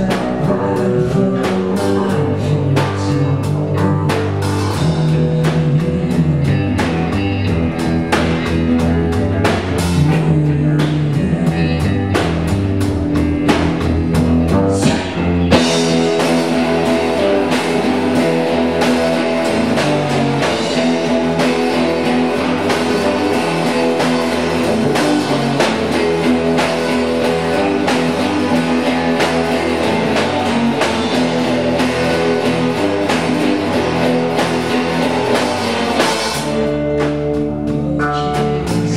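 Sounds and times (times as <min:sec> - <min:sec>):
drum kit: 0:00.0 - 0:38.9
electric bass: 0:00.0 - 0:38.9
guitar: 0:00.0 - 0:38.9.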